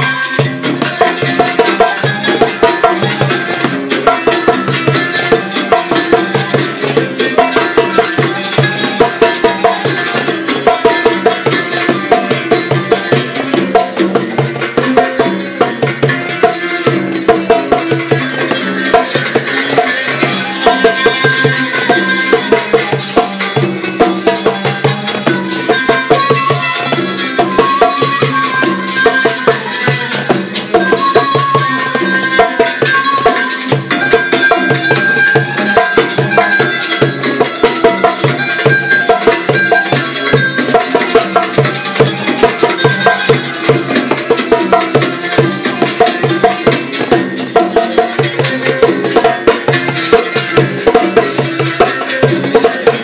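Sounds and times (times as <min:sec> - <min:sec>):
fast steady drum beat: 0:00.0 - 0:53.0
traditional style melody: 0:00.0 - 0:53.0.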